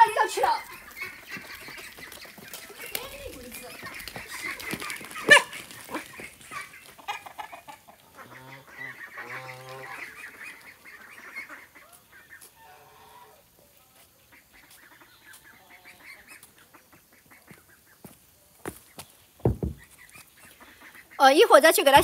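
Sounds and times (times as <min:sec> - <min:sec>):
geese honking: 0:00.0 - 0:18.1, 0:19.8 - 0:22.0.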